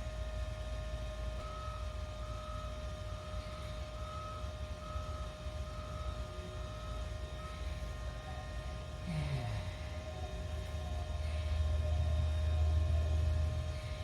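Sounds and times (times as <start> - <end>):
machine rumbling and humming: 0.0 - 14.0.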